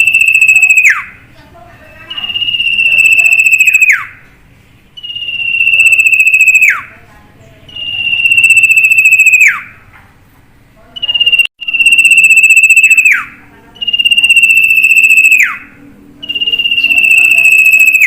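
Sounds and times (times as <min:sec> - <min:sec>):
bird calling: 0:00.0 - 0:01.2, 0:01.8 - 0:04.3, 0:05.0 - 0:09.8, 0:11.0 - 0:18.0.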